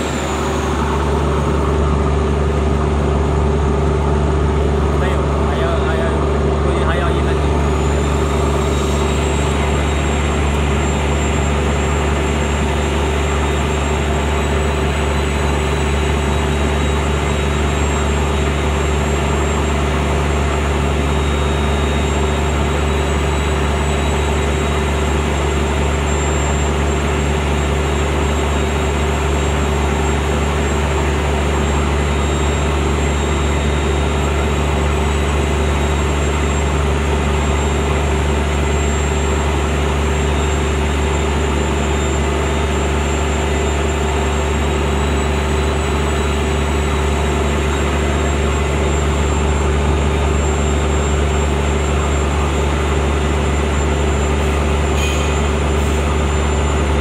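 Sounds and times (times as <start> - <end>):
high whine: 0.0 - 57.0
milling machine motor drone: 0.0 - 57.0.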